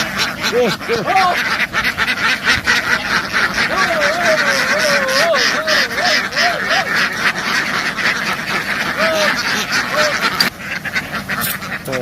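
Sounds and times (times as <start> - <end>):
ducks quacking in chorus: 0.0 - 12.0
wavering call: 0.0 - 12.0.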